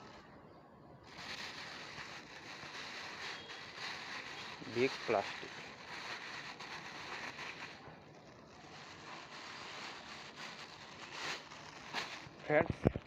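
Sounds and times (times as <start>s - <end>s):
plastic rubbish rustling: 1.0s - 12.6s.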